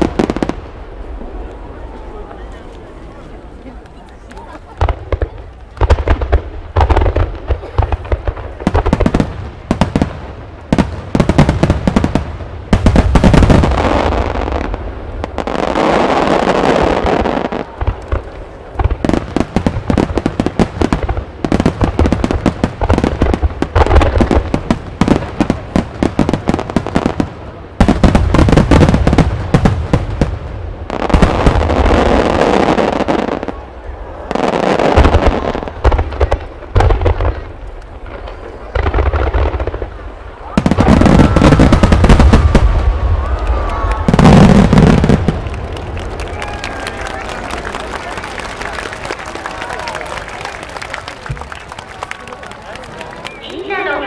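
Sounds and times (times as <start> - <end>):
fireworks bursting: 0.0 - 54.0
fireworks rumble and crackle: 0.0 - 54.0.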